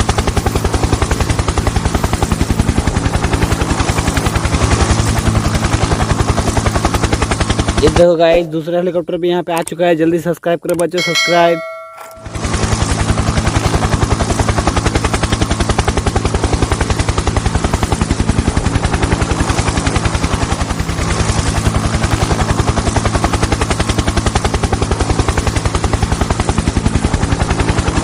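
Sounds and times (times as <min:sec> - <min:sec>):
helicopter rotor chopping: 0:00.0 - 0:08.5, 0:11.0 - 0:28.0.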